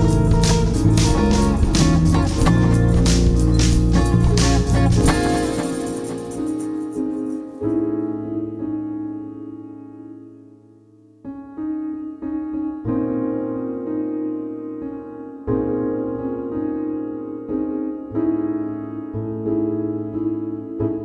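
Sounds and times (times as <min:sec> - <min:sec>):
piano chords ringing: 0:00.0 - 0:21.0.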